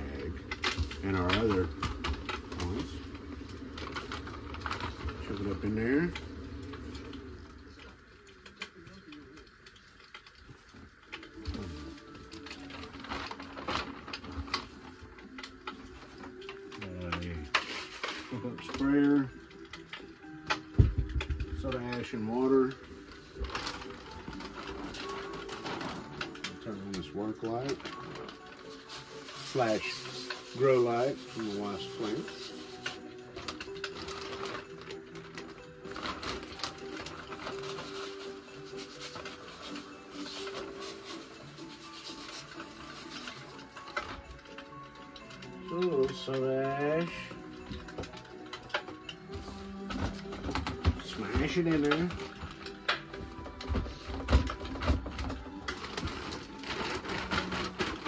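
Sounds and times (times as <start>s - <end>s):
background music: 0.0s - 58.0s
plastic sheeting crinkling: 0.0s - 58.0s.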